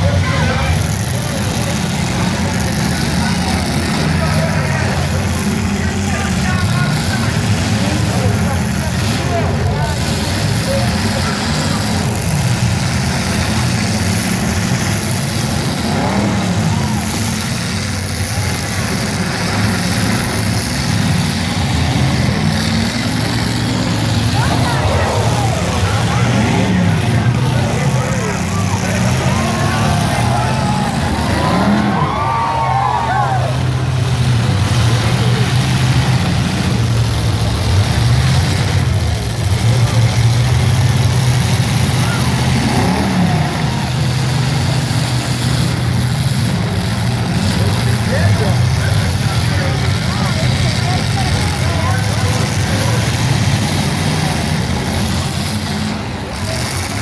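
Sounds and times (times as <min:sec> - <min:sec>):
car engine revving: 0:00.0 - 0:57.0
car engines running: 0:00.0 - 0:57.0.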